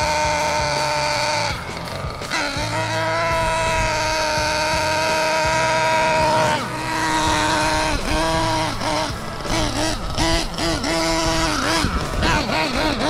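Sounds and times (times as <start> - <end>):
nitro engine revving: 0.0 - 13.0.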